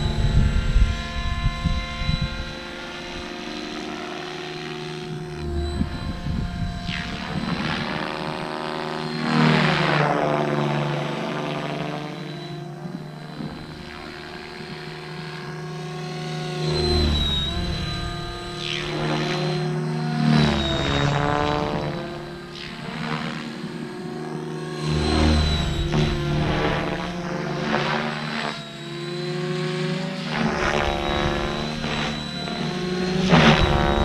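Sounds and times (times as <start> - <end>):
model helicopter motor and rotor whine: 0.0 - 34.0.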